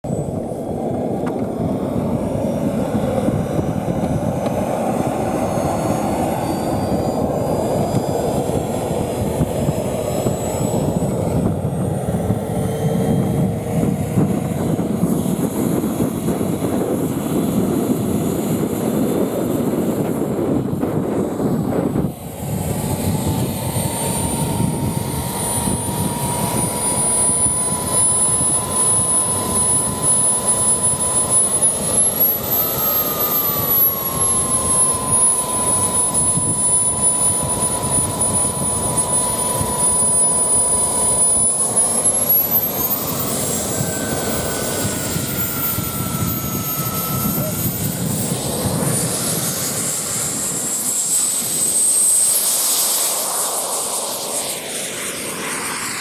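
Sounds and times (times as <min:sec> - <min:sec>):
high turbine whine: 0:00.0 - 0:56.0
jet turbine running: 0:00.0 - 0:56.0.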